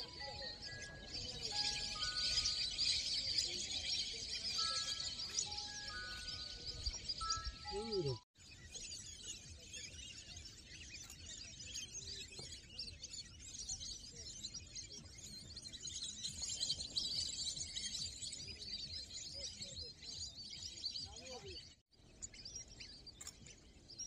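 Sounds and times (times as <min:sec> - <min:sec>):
flock of birds chirping: 0:00.0 - 0:24.0.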